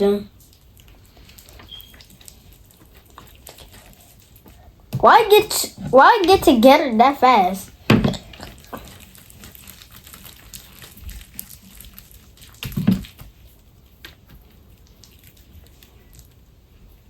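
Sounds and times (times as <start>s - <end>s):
hands kneading slime: 0.0s - 17.0s.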